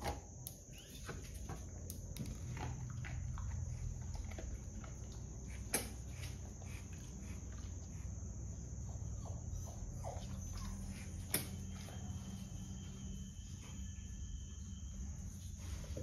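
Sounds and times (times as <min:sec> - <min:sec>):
low hum: 0:01.6 - 0:16.0.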